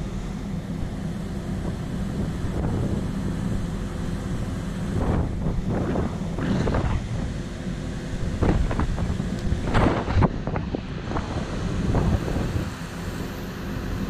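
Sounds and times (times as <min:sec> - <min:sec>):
steady low rumble: 0:00.0 - 0:14.0
wind buffeting microphone: 0:00.9 - 0:13.3.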